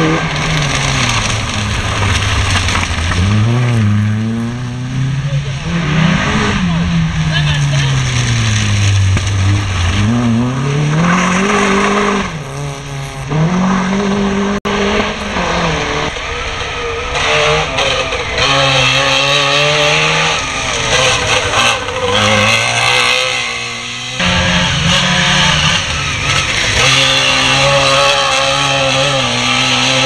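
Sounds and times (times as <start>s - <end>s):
hatchback engine revving: 0.0s - 30.0s
two-stroke engine revving: 0.0s - 30.0s.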